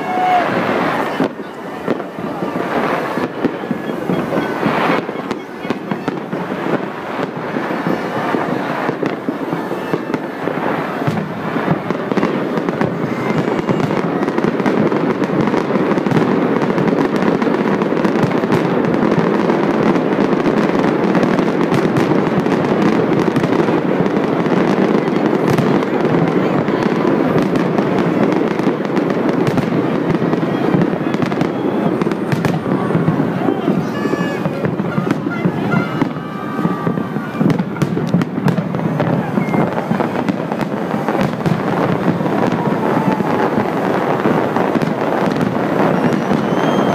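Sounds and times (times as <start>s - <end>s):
fireworks bursting and crackling: 0.0s - 46.9s.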